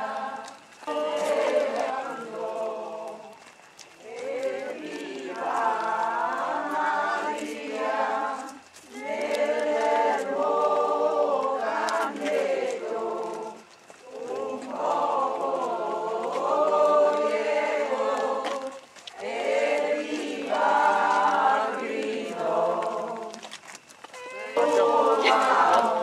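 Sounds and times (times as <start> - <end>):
group singing a hymn: 0.0 - 23.6, 24.2 - 26.0.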